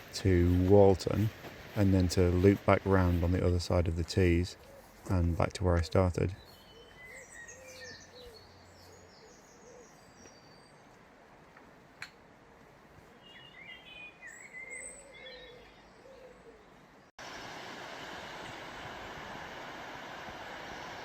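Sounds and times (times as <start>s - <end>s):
songbirds chirping: 0.0s - 17.1s.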